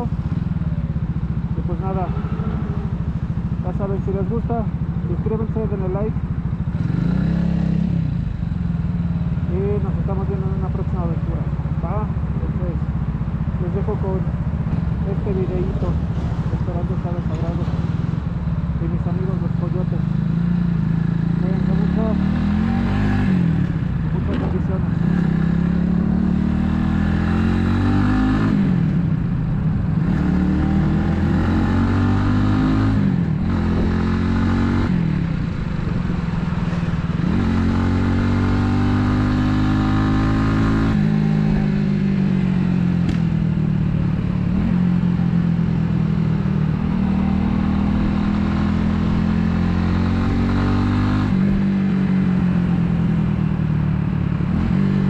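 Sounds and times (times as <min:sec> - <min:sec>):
motorcycle engine accelerating through gears: 0:00.0 - 0:55.0.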